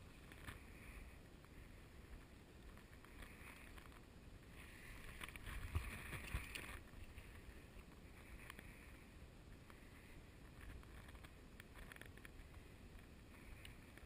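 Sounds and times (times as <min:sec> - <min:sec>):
shallow river water: 0:00.0 - 0:11.6.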